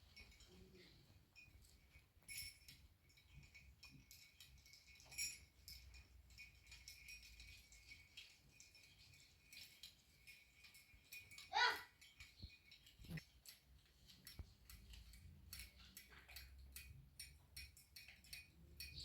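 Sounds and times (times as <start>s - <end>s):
light clicks and rattles: 0.0s - 19.0s.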